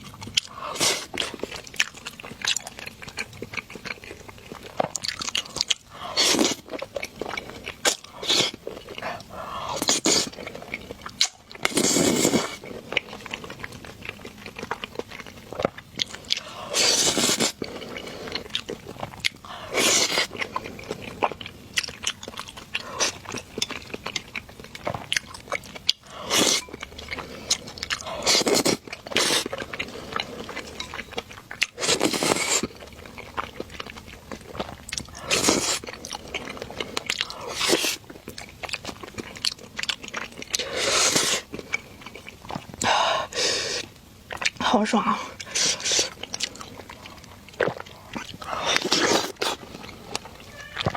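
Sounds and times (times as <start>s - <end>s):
person chewing noodles: 0.0s - 50.9s.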